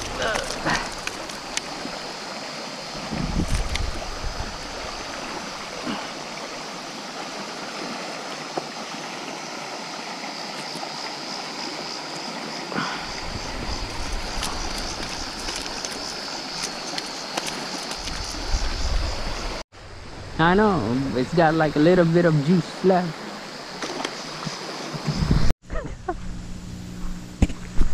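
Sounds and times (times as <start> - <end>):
water running over rocks: 0.0 - 19.6, 20.6 - 25.4.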